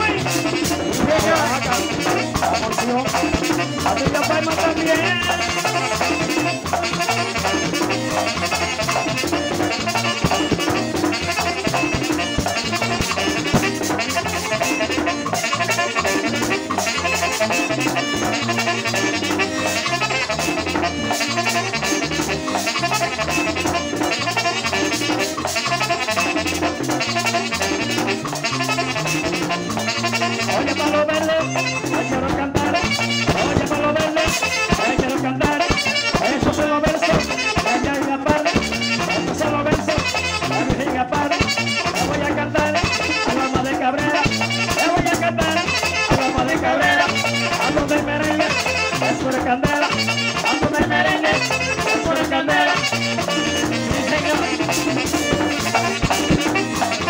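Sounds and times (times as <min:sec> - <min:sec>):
accordion: 0:00.0 - 0:57.0
driving percussion: 0:00.0 - 0:57.0
saxophone: 0:00.0 - 0:57.0
stepping bass line: 0:00.0 - 0:57.0.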